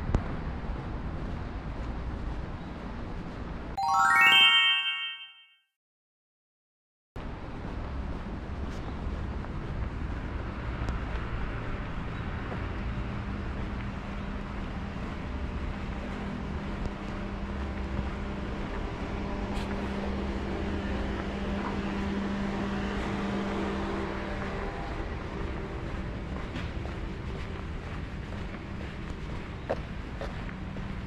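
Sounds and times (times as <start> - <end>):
car engine and road noise: 0.0 - 3.8, 7.2 - 31.0.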